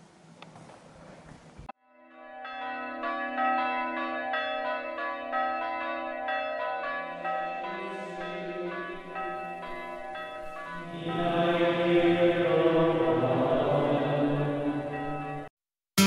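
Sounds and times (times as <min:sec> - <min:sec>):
church bells pealing: 0:01.8 - 0:15.5.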